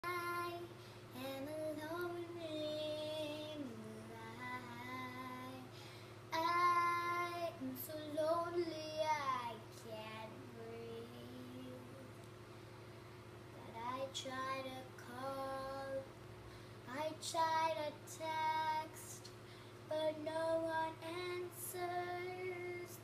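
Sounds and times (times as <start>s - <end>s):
girl singing unaccompanied: 0.0s - 12.2s, 13.6s - 16.1s, 16.9s - 19.3s, 19.9s - 23.0s
steady low hum: 0.0s - 23.0s.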